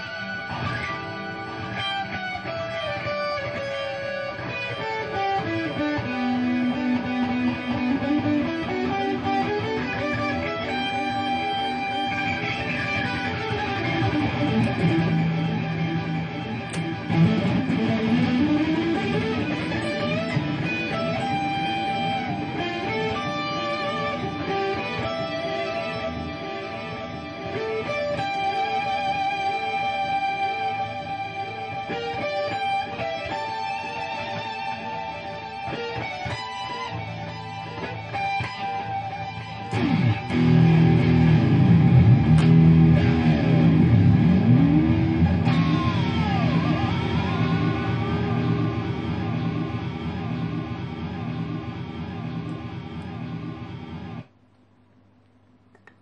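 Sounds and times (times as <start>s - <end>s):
electric guitar with delay echoes: 0.0s - 54.3s.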